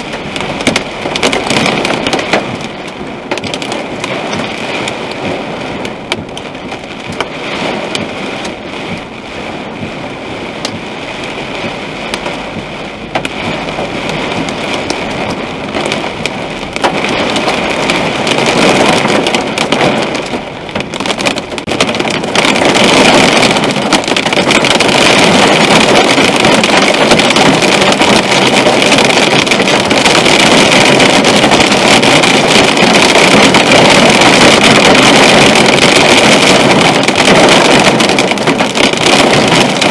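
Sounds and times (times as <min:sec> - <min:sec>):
rain pelting a car: 0:00.0 - 0:39.9
tyres on a wet road: 0:00.0 - 0:39.9.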